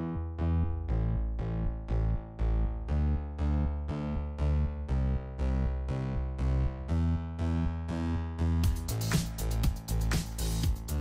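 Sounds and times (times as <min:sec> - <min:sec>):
background music: 0:00.0 - 0:11.0
deep bass: 0:00.0 - 0:11.0.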